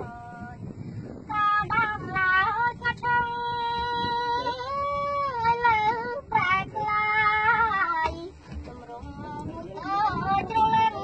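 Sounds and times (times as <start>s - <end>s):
boy singing unaccompanied: 0.0s - 0.6s, 1.3s - 11.0s.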